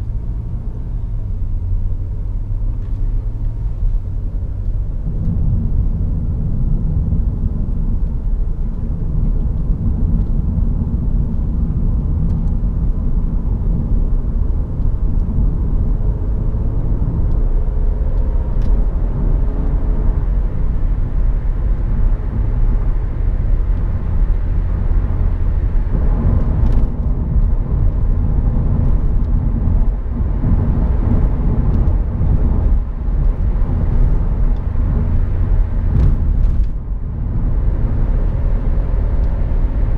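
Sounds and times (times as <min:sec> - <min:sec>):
car engine running: 0:00.0 - 0:39.9
tyre and road noise: 0:00.0 - 0:39.9.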